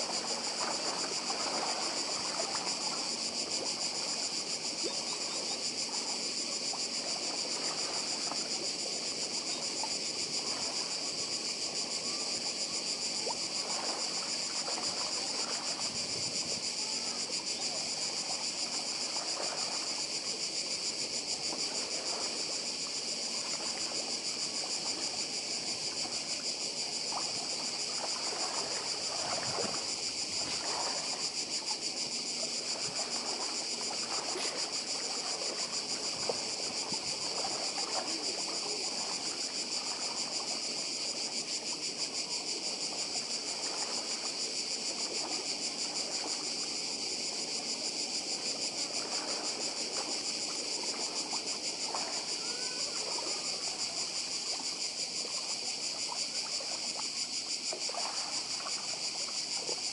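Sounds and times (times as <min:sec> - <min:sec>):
cicadas buzzing: 0:00.0 - 0:59.9
waves lapping on pebbles: 0:00.0 - 0:59.9.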